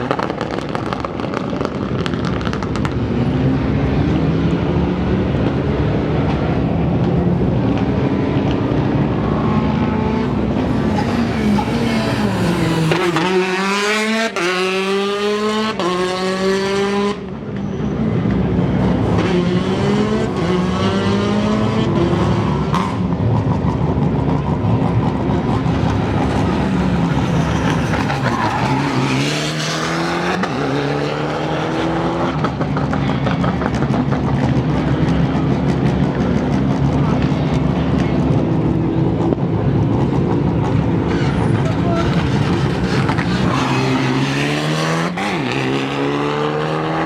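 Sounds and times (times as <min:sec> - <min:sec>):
rally car engines revving: 0:00.0 - 0:47.0.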